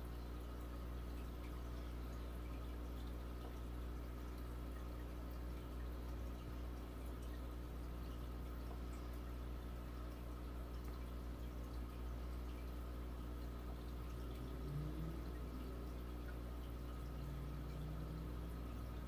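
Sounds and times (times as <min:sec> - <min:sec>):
aquarium filter motor hum: 0:00.0 - 0:19.0
water trickling and dripping: 0:00.0 - 0:19.0.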